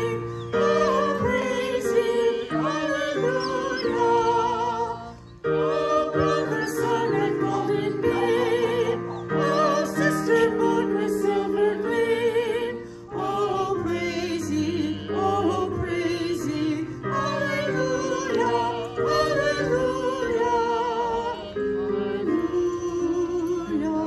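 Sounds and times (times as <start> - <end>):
electric keyboard chords: 0.0 - 24.0
voices singing with vibrato: 0.0 - 24.0.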